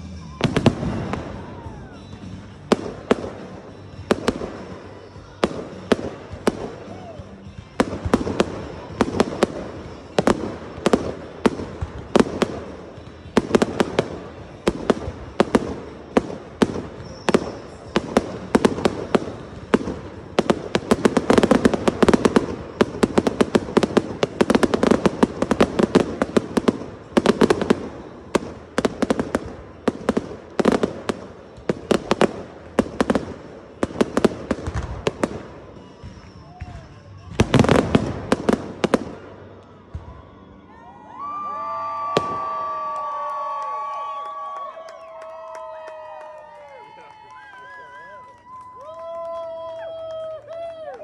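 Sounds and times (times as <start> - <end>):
fireworks bursting: 0.0 - 46.6
fireworks crackling: 0.0 - 51.0.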